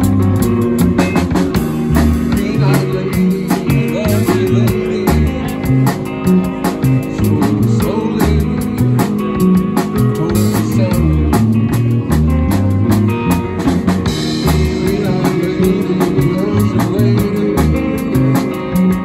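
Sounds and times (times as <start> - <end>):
drum beat: 0.0 - 19.0
electric bass notes: 0.0 - 19.0
rock band playing: 0.0 - 19.0.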